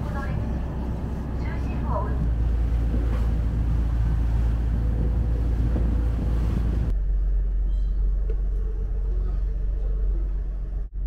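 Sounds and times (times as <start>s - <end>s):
boat engine rumble: 0.0s - 11.0s
wind noise on microphone: 2.0s - 11.0s.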